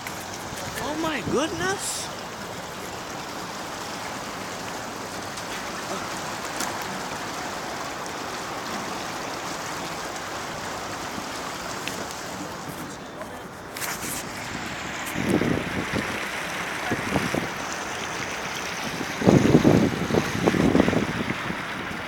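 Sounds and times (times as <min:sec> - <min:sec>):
water rushing through channel: 0:00.0 - 0:22.0.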